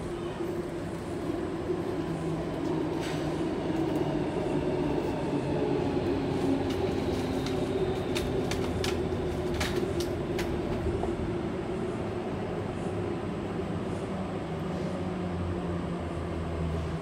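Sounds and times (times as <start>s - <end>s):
train carriage hum: 0.0s - 17.0s.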